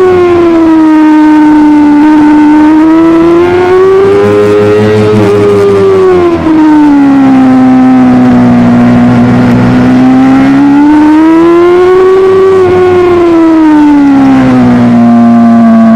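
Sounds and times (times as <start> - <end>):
motorcycle engine at high revs: 0.0 - 15.9.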